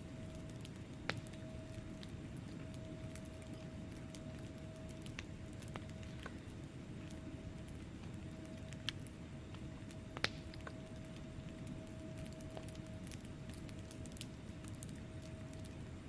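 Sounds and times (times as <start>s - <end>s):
faint steady hum: 0.0s - 16.0s
wood fire crackling: 0.0s - 16.0s
sharp pops from fire: 0.4s - 15.7s.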